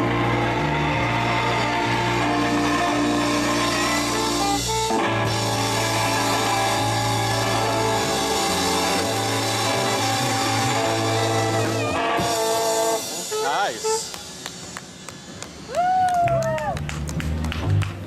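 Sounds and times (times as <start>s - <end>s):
live blues-rock band playing: 0.0s - 15.4s.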